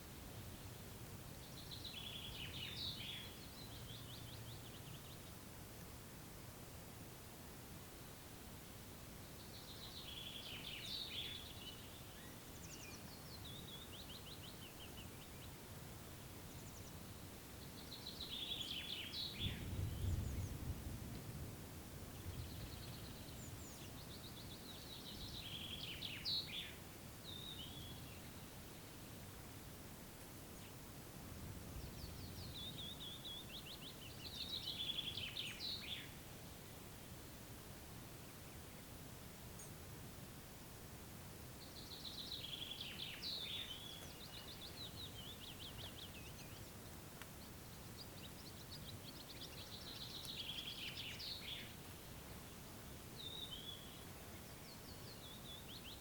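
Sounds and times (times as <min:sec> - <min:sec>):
songbirds singing: 0:00.0 - 0:05.6, 0:09.0 - 0:21.3, 0:22.0 - 0:29.5, 0:30.4 - 0:31.0, 0:31.6 - 0:37.4, 0:38.0 - 0:39.9, 0:40.5 - 0:56.0
outdoor background hiss: 0:00.0 - 0:56.0.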